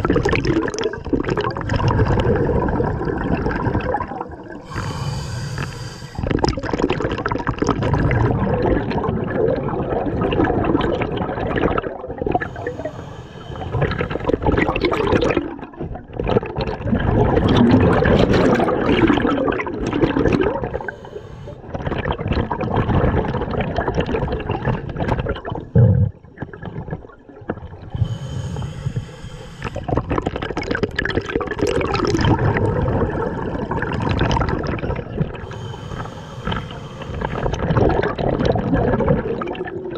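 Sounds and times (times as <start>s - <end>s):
regulator bubbles underwater: 0.0s - 39.9s.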